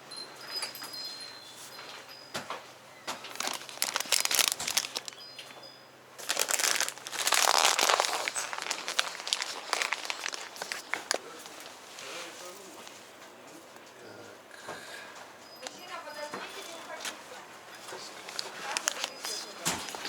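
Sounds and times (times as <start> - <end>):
rustling and crinkling: 0.4 - 5.6, 6.2 - 14.0, 15.6 - 20.0.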